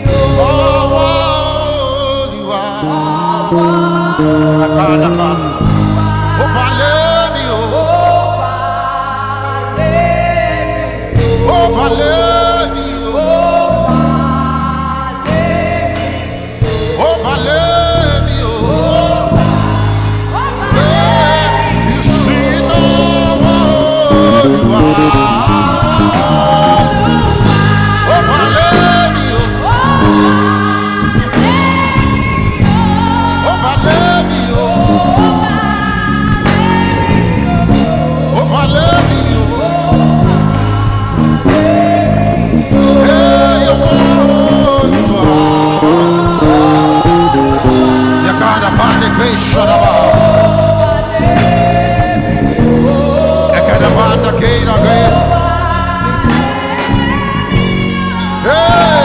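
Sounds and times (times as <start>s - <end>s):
bass and keyboard accompaniment: 0.0s - 59.0s
person singing: 0.0s - 59.0s.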